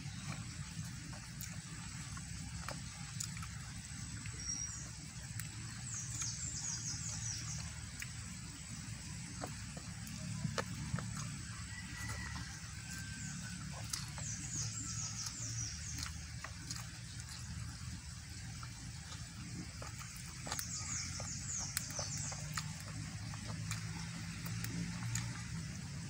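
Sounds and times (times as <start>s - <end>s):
steady low hum: 0.0s - 26.0s
wet clicks and smacks of eating: 0.0s - 26.0s.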